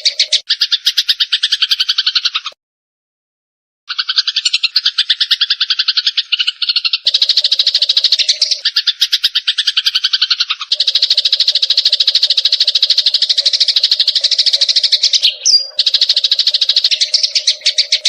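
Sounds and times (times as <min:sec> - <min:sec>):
sparrows chirping harshly: 0:00.0 - 0:02.6, 0:03.9 - 0:18.0.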